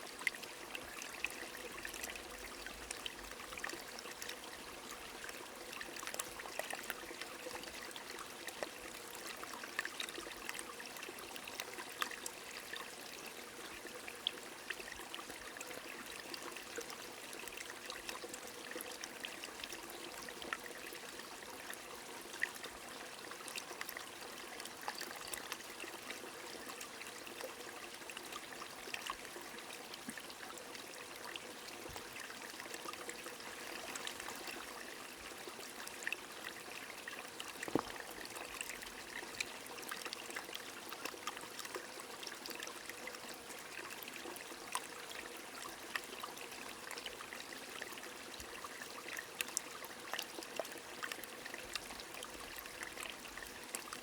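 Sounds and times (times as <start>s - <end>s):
stream flowing: 0.1s - 54.0s.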